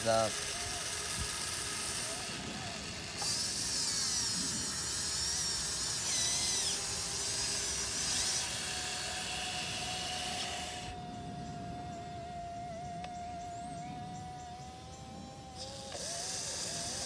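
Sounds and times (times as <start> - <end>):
electric motors whining: 0.0 - 17.0
low steady hum: 0.0 - 17.0.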